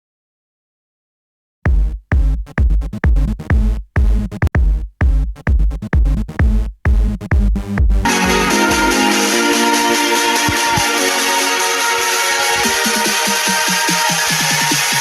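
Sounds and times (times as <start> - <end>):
electronic music with heavy bass hits: 1.7 - 15.0.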